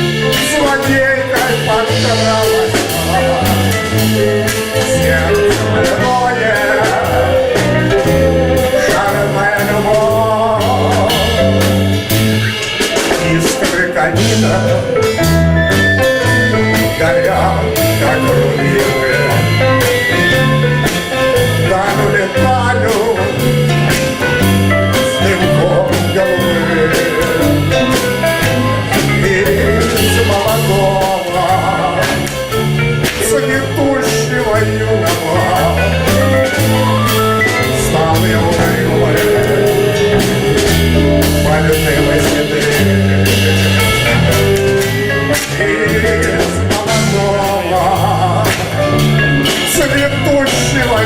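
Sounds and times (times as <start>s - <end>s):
live band playing tango: 0.0s - 51.0s.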